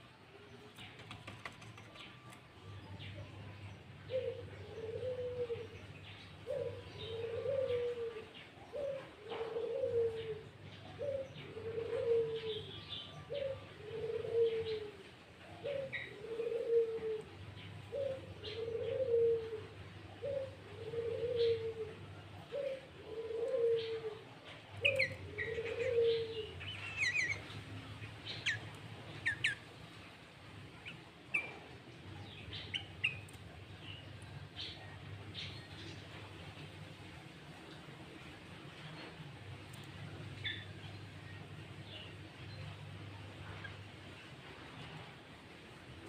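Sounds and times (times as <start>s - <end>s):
dove cooing: 0.3s - 46.0s.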